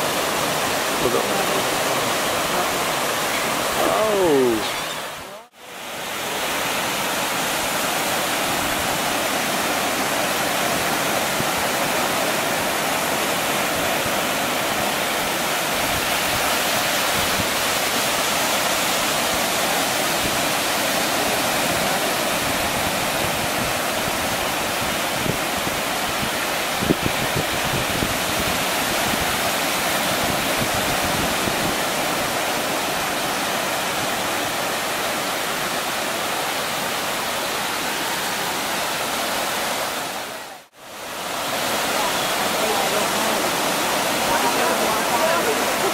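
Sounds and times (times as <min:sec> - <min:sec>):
ocean surf breaking: 0:00.0 - 0:45.9.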